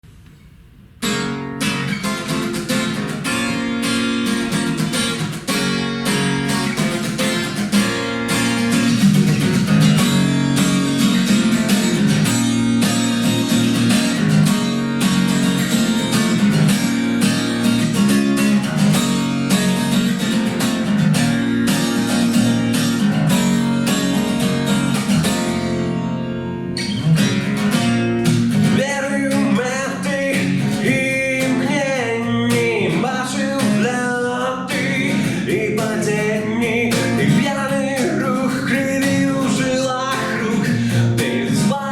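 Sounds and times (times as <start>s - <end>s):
song with strummed acoustic guitar: 0.0s - 41.9s.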